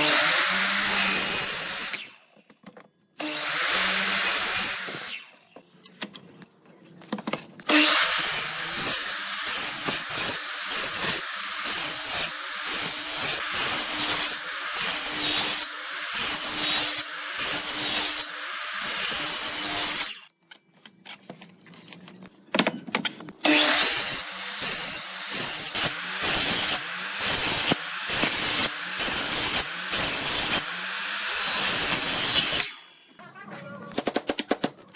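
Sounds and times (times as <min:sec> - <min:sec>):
woodworking tool cutting wood: 0:00.0 - 0:05.6, 0:07.6 - 0:20.3, 0:23.4 - 0:33.2.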